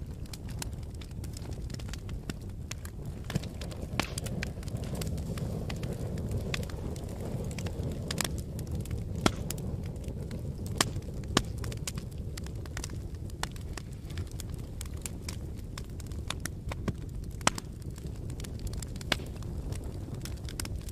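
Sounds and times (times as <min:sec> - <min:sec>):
burning logs crackling and popping: 0:00.0 - 0:20.9
fire flame rumble: 0:00.0 - 0:20.9.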